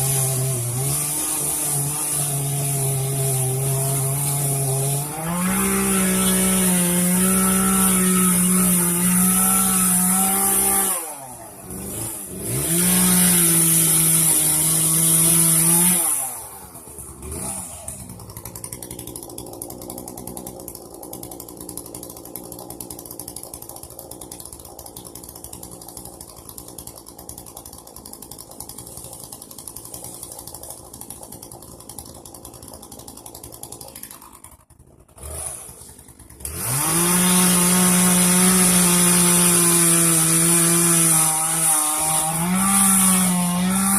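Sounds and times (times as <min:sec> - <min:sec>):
chainsaw idling: 0:00.0 - 0:43.9
chainsaw revving: 0:00.0 - 0:43.9.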